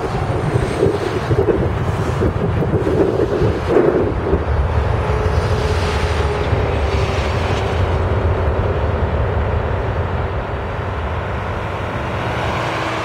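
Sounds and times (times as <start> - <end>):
jet engines in reverse thrust: 0.0 - 13.0.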